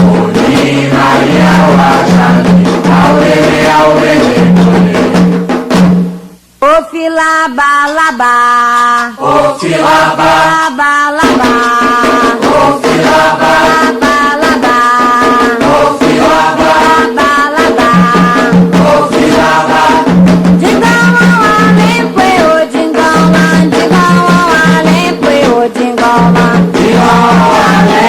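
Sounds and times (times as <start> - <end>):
voices singing chant: 0.0 - 5.3, 8.2 - 28.0
steady percussion beat: 0.0 - 6.4, 8.8 - 28.0.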